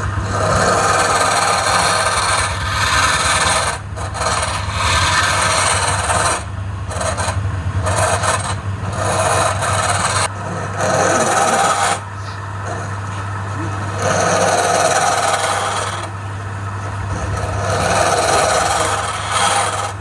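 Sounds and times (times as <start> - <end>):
tool rasping against spinning wood: 0.0 - 20.0
wood lathe motor hum: 0.0 - 20.0.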